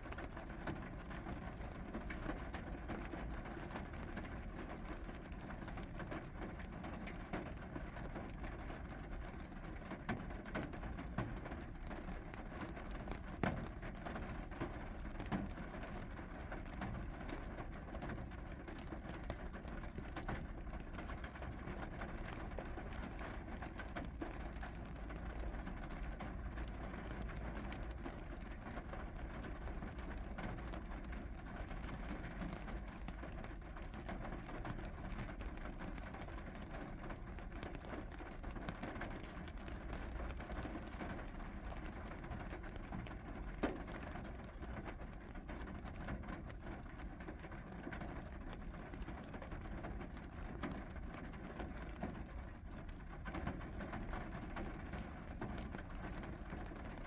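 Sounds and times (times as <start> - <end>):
raindrops tapping on a surface: 0.0 - 57.0.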